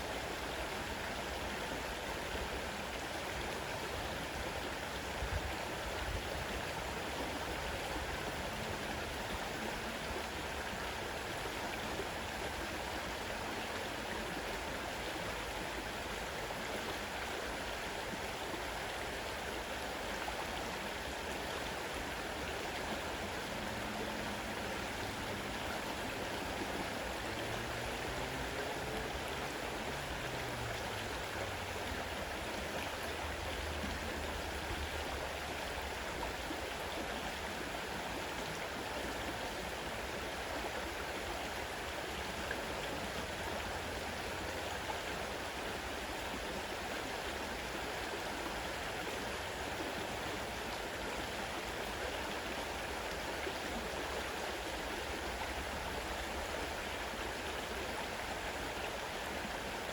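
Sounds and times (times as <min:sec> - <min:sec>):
river rushing: 0:00.0 - 0:59.9.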